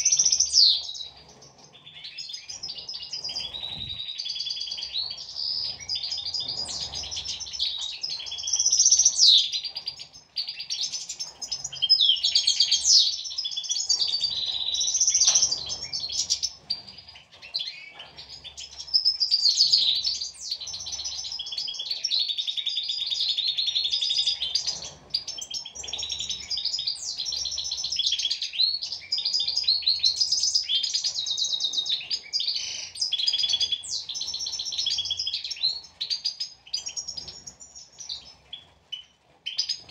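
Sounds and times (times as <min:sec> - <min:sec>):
finches twittering: 0:00.0 - 0:38.6.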